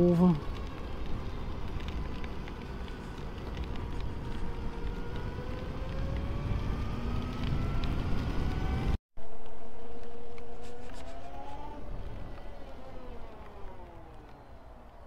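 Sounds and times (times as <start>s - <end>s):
tyres on wet road: 0.0s - 15.0s.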